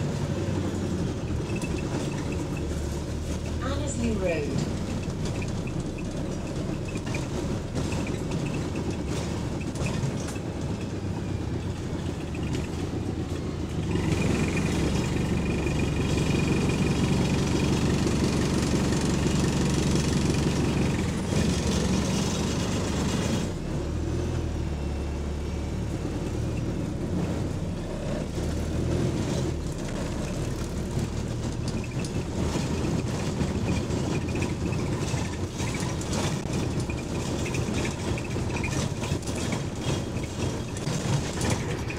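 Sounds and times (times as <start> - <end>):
bus engine running: 0.0 - 41.9
road noise: 0.0 - 41.9.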